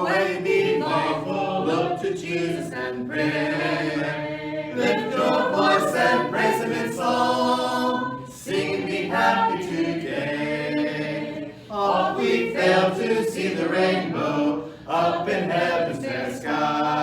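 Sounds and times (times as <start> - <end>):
group singing a hymn a cappella: 0.0 - 17.0.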